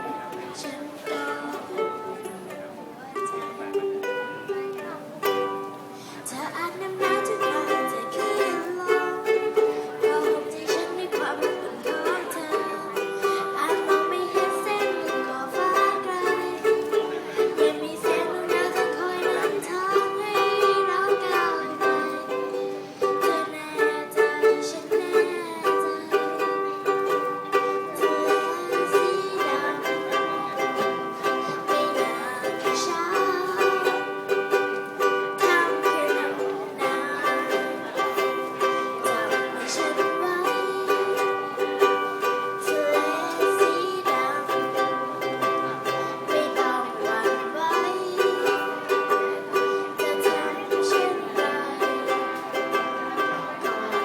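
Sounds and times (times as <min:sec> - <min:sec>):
ukulele music: 0:00.0 - 0:54.0.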